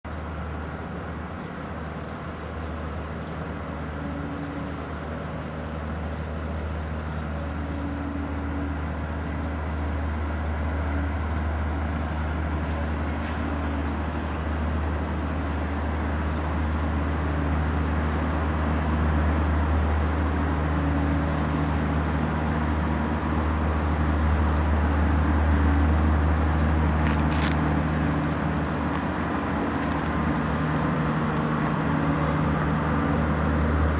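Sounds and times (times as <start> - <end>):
low outdoor rumble: 0.1 - 33.9.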